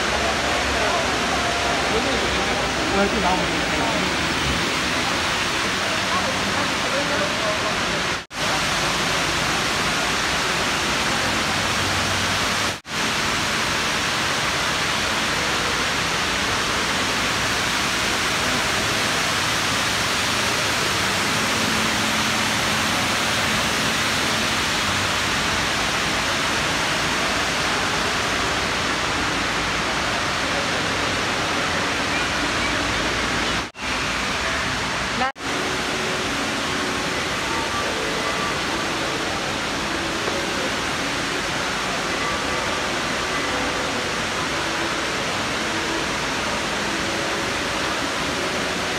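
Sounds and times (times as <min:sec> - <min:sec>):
waterfall splashing into pool: 0:00.0 - 0:48.9.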